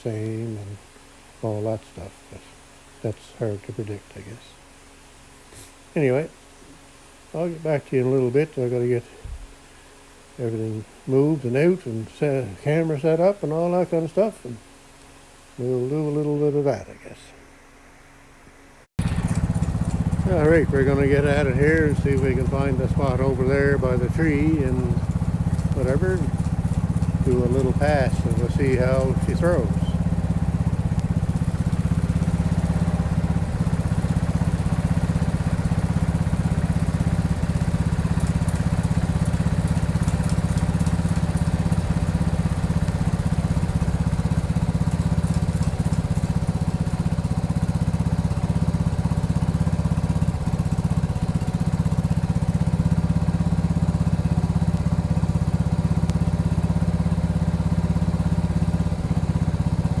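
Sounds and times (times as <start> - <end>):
garden tractor engine running: 0.0 - 4.6, 7.2 - 9.4, 10.4 - 14.6, 15.6 - 17.2, 19.0 - 60.0.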